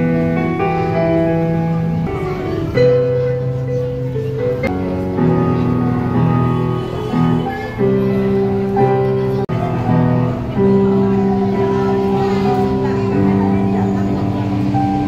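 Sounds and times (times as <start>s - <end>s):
electronic keyboard chords: 0.0s - 15.0s.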